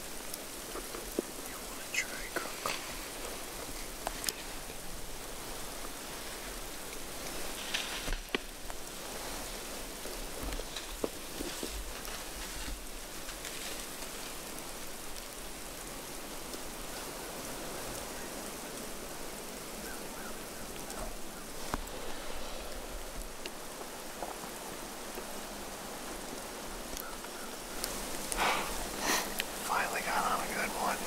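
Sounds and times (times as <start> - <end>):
steady outdoor hiss: 0.0 - 31.0
small ticks: 0.2 - 4.8, 5.4 - 17.1, 17.8 - 21.9, 23.0 - 29.6.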